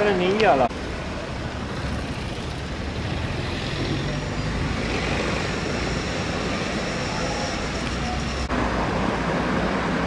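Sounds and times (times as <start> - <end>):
motor vehicle rumbling: 0.0 - 10.0
road noise: 0.0 - 10.0.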